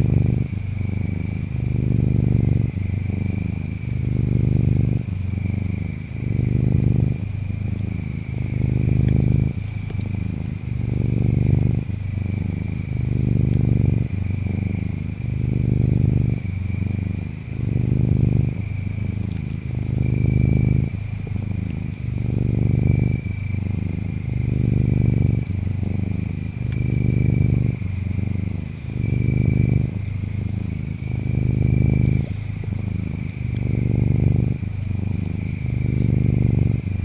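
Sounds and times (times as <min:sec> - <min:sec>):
cat purring: 0:00.0 - 0:37.0
insects trilling and chirping: 0:00.0 - 0:37.0.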